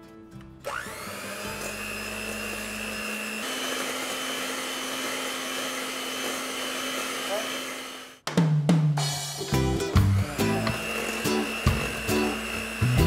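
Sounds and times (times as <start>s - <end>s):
electric mixer motor whining: 0.6s - 8.2s, 10.0s - 13.0s.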